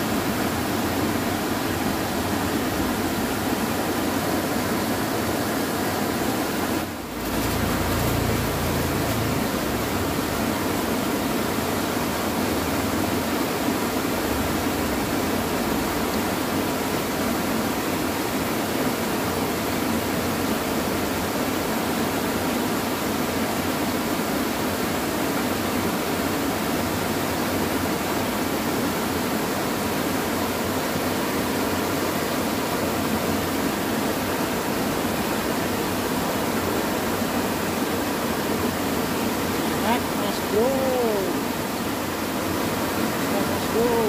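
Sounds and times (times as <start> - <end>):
water rushing over a weir: 0.0 - 44.0.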